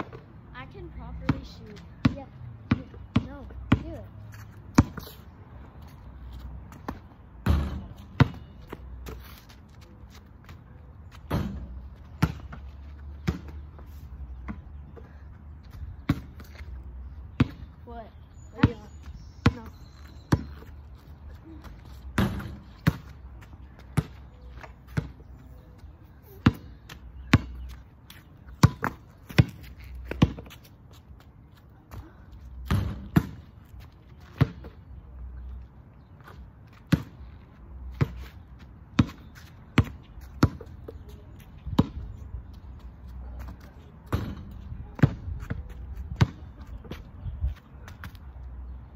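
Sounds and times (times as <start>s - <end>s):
basketball bouncing on asphalt: 0.0s - 48.7s.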